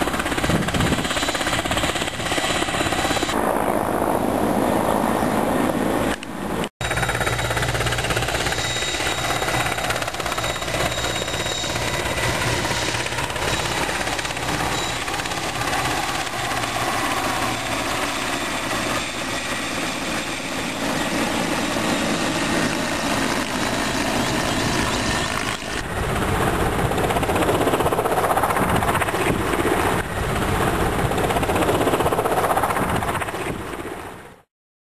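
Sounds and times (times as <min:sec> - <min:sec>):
helicopter rotor chop and turbine: 0:00.0 - 0:34.5.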